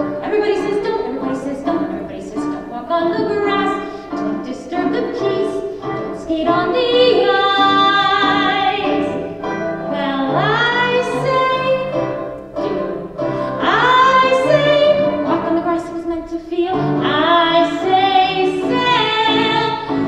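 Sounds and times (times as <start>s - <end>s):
musical accompaniment: 0.0s - 20.0s.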